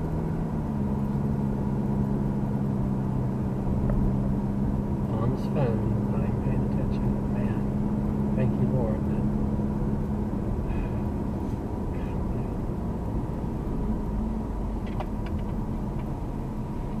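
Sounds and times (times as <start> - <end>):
vehicle driving rumble: 0.0 - 17.0.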